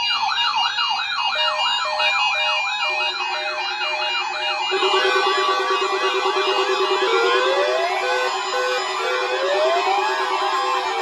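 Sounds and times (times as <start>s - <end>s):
lower steady alarm tone: 0.2s - 11.0s
rapidly warbling electronic alarm: 1.4s - 11.0s.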